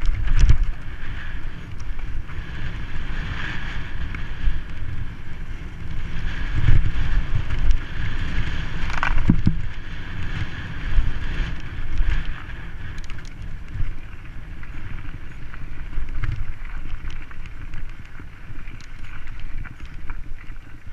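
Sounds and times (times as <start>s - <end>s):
bike rattling over bumps: 0.0s - 20.9s
wind buffeting microphone: 0.0s - 20.9s.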